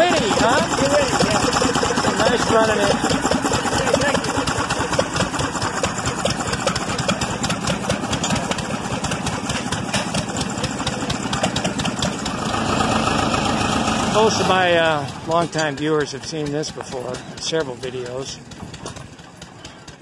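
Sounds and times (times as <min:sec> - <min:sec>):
stationary engine exhaust popping: 0:00.0 - 0:20.0.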